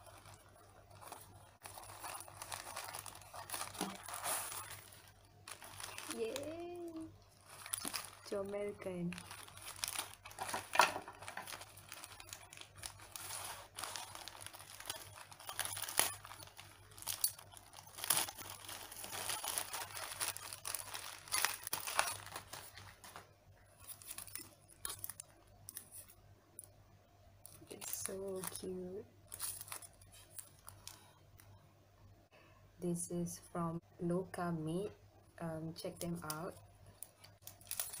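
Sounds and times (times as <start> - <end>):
plastic wrapping crinkling: 0.0 - 26.2, 27.4 - 31.5, 36.0 - 38.0.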